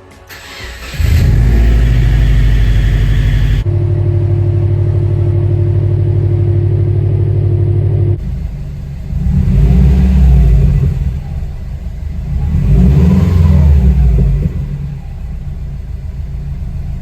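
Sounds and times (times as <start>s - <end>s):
car engine revving: 0.3s - 17.0s.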